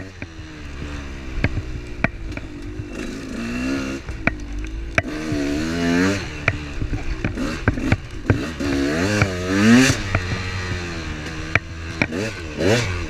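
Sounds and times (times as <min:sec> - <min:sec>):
off-road vehicle engine: 0:00.0 - 0:13.0
knocks and clatter from wheels: 0:00.1 - 0:13.0.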